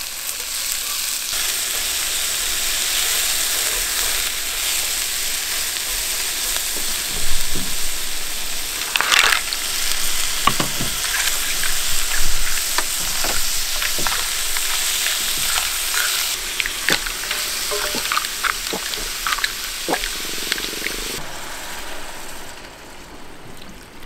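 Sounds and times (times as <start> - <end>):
food sizzling in a pan: 0.0 - 23.3.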